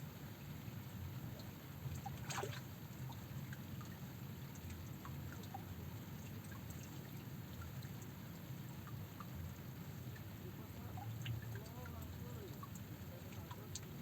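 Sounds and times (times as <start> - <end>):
water dripping and trickling: 0.2 - 14.0.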